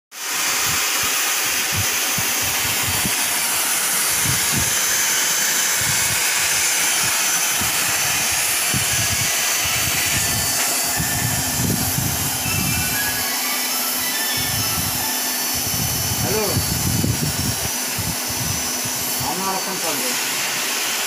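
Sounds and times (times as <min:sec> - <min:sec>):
hot-air blower hissing: 0:00.1 - 0:21.0.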